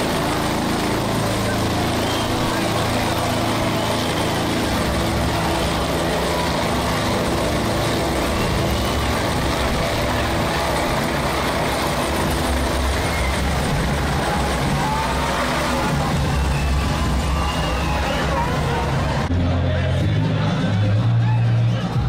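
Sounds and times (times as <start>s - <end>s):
helicopter hovering drone: 0.0s - 22.0s.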